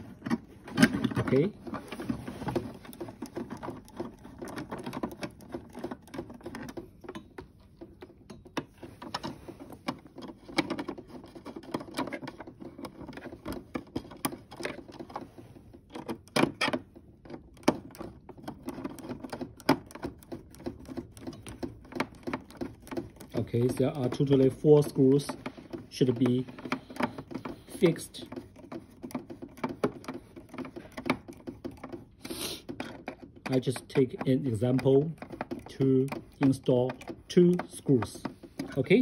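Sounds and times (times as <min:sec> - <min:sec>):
screwdriver clicks and rattles: 0:00.0 - 0:39.0.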